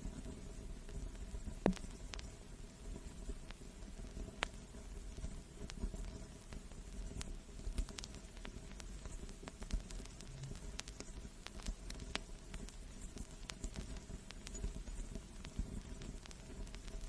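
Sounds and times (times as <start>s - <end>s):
vinyl crackles and pops: 0.0s - 17.0s
vinyl hiss and rumble: 0.0s - 17.0s.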